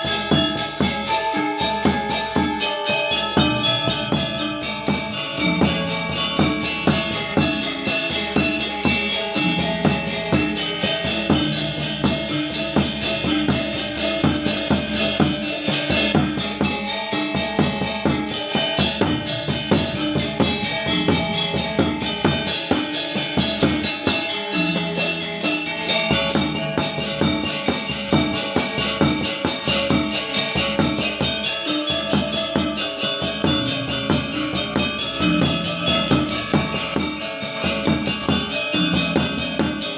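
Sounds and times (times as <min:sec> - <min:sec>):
gamelan ensemble playing: 0:00.0 - 0:39.9.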